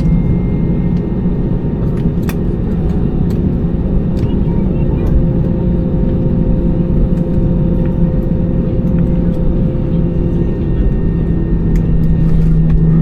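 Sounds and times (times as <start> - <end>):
aircraft cabin drone: 0.0 - 13.0
steady hum tones: 0.0 - 13.0.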